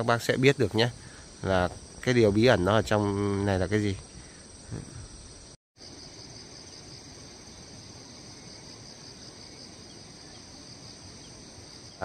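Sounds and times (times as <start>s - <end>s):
faint outdoor background noise: 0.0s - 12.0s
insects chirring: 0.0s - 12.0s.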